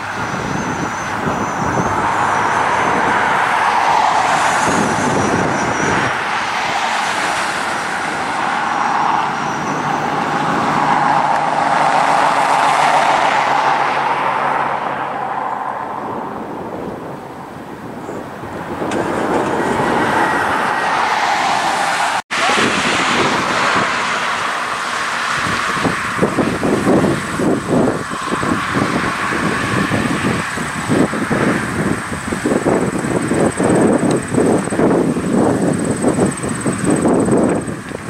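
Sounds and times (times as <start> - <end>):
low drone of aircraft overhead: 0.0 - 21.6, 22.4 - 38.0
road traffic rushing past: 0.0 - 38.0.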